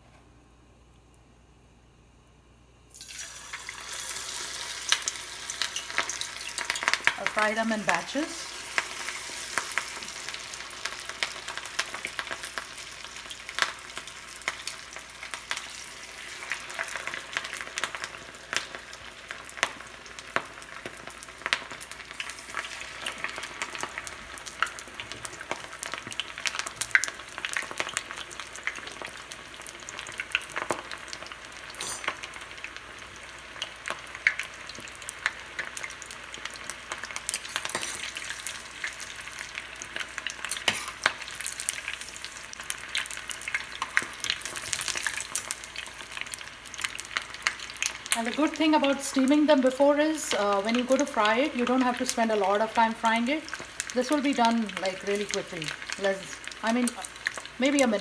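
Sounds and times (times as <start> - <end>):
chicken deep-frying in oil: 2.9 - 58.0
oil crackling and popping: 2.9 - 58.0.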